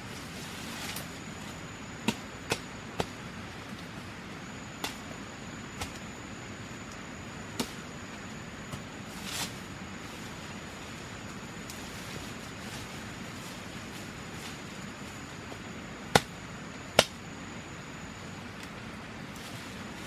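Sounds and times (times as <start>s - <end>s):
steady hiss: 0.0s - 20.0s
thin high whine: 0.0s - 20.0s.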